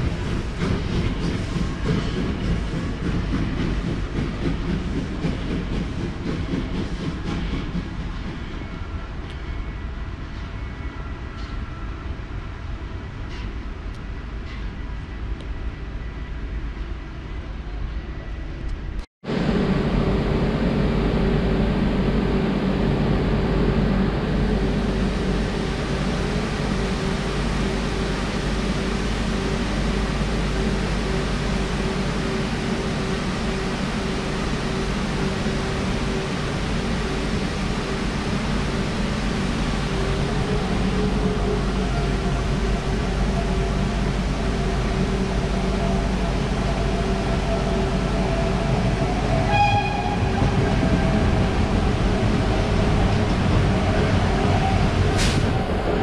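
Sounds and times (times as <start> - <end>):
approaching train rumbling: 0.0 - 56.0.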